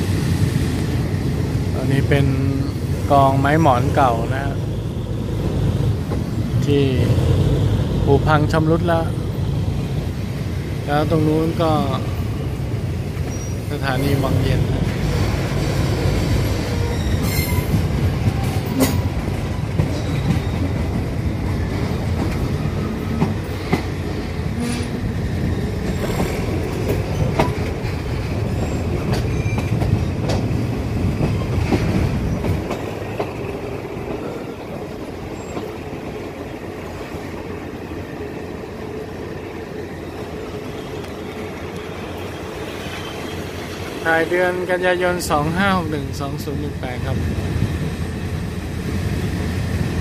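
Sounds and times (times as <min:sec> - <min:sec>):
train carriage rumble: 0:00.0 - 0:50.0.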